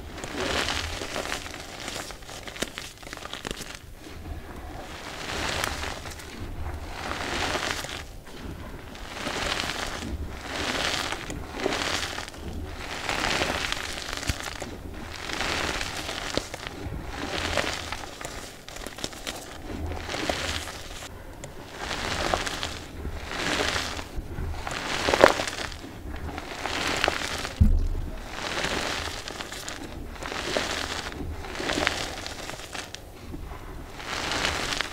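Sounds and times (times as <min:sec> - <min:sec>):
chalk crunching in hands: 0:00.0 - 0:34.9.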